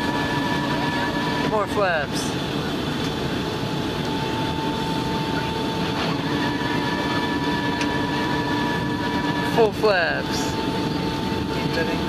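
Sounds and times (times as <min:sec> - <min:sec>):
jet engines and airflow rushing: 0:00.0 - 0:12.0
steady cabin hum: 0:00.0 - 0:12.0.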